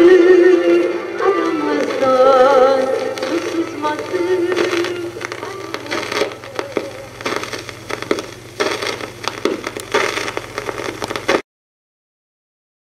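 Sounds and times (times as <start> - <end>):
low steady hum: 0.0 - 11.4
vinyl surface crackle and hiss: 0.0 - 11.4.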